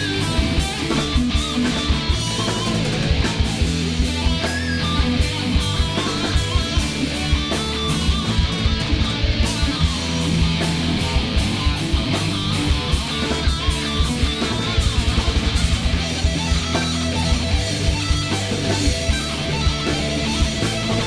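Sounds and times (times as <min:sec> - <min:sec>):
rock song with guitars and drums: 0:00.0 - 0:21.0.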